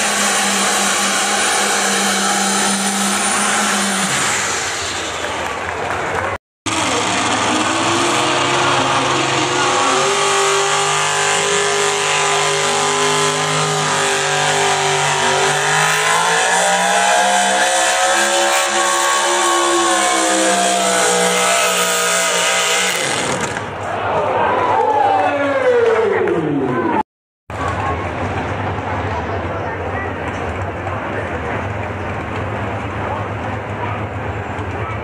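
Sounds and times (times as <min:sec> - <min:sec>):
engine running hard under load: 0:00.0 - 0:23.8, 0:27.5 - 0:35.0.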